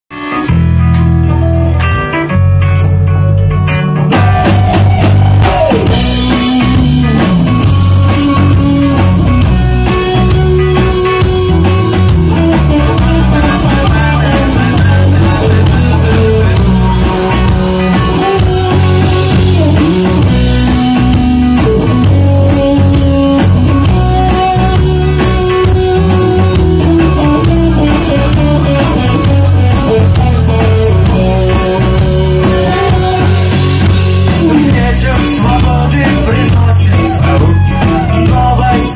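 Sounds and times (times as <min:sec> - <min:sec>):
bass: 0:00.0 - 0:38.9
drum kit beat: 0:00.1 - 0:38.9
electric guitar lines: 0:00.1 - 0:38.9
rock band playing live: 0:00.1 - 0:38.9.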